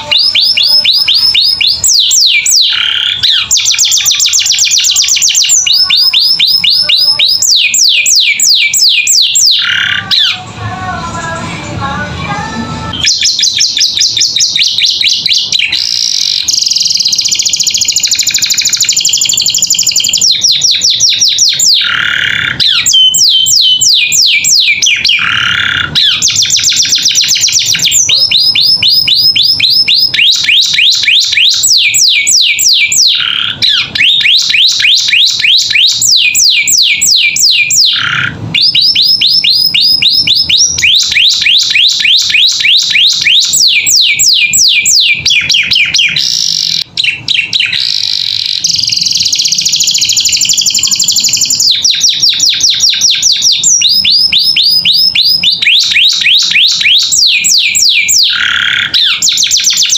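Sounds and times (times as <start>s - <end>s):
canary singing trills: 0.0s - 12.1s, 12.8s - 59.9s.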